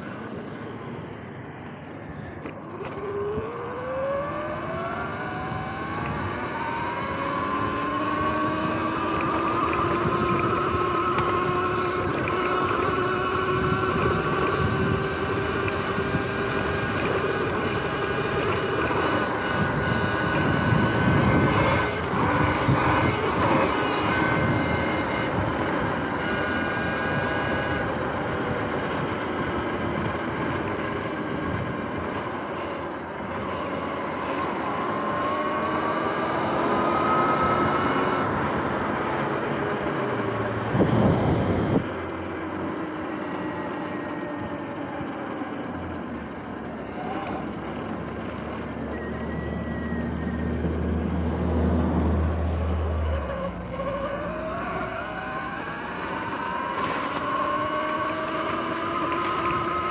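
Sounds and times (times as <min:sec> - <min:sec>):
electric motorbike motor whining: 0:00.0 - 0:59.9.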